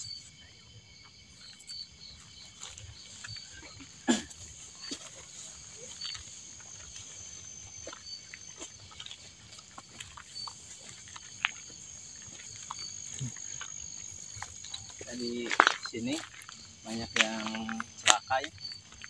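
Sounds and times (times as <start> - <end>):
insect chirps: 0.0 - 19.0
insect trill: 0.0 - 19.0.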